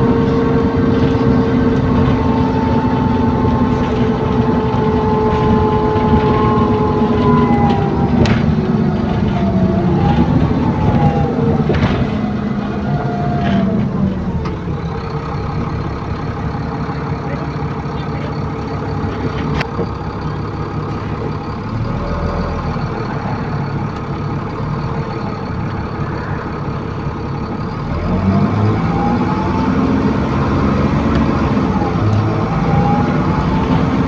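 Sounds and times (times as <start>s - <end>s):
bus engine running: 0.0s - 34.0s
bus gearbox whine: 0.0s - 34.0s.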